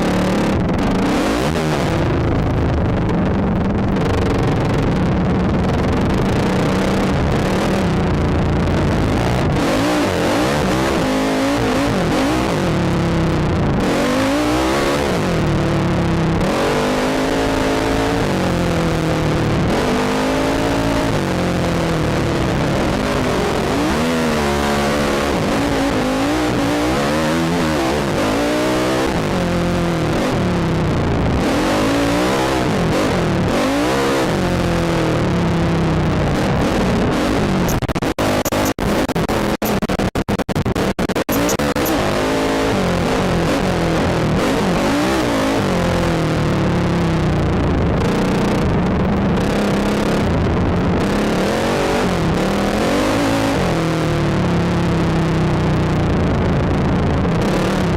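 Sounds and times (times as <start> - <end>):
atv engine revving: 0.0 - 3.2, 3.9 - 40.2, 40.8 - 55.8.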